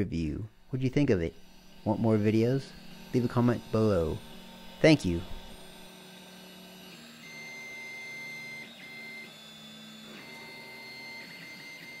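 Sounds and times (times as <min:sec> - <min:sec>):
printer motors whining: 0:00.0 - 0:12.0.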